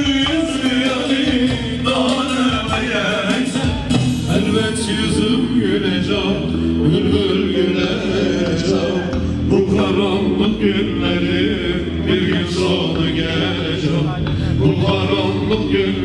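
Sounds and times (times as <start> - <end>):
man singing folk music: 0.0 - 16.0.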